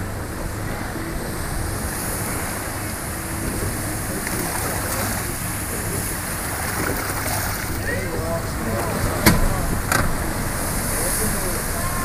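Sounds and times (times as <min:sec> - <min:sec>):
boat motor hum: 0:00.0 - 0:12.0
wind and sea rushing: 0:00.0 - 0:12.0.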